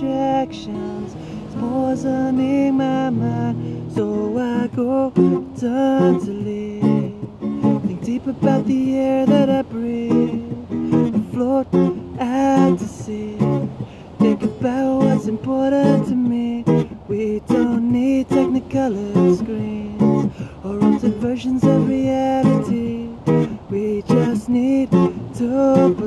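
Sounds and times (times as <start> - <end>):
acoustic guitar strumming: 0.0 - 26.0
man singing: 0.0 - 26.0.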